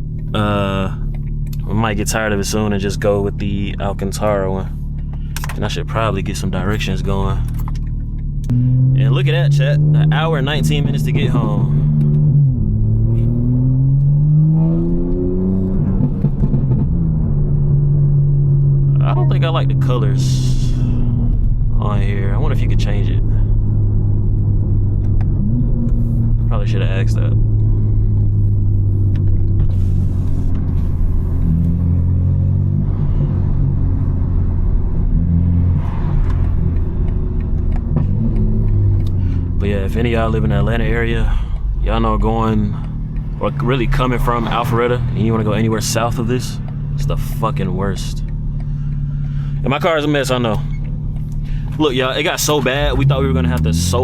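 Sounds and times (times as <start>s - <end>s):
car engine pulling: 0.0s - 54.0s.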